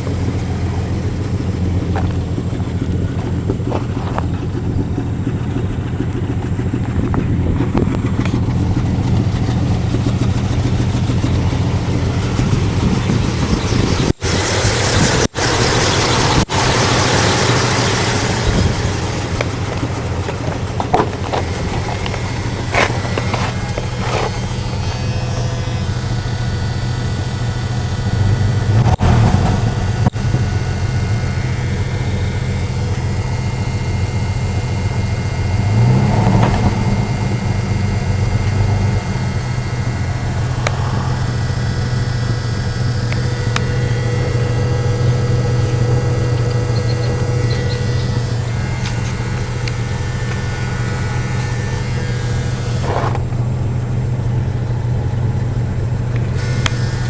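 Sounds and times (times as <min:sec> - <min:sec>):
pickup engine idling and revving: 0:00.0 - 0:57.0.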